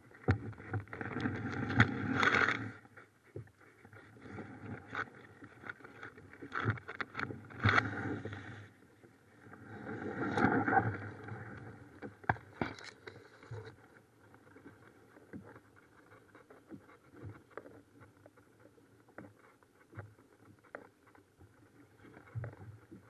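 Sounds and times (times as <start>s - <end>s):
reeds scraping along kayak: 0.2s - 23.0s.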